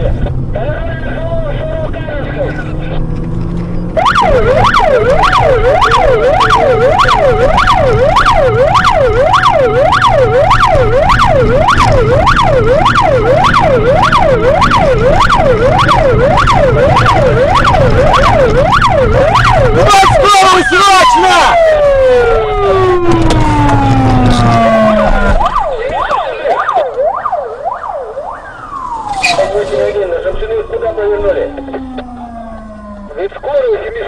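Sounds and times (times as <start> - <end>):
car engine and road rumble: 0.0 - 34.0
police siren yelping: 3.6 - 33.4.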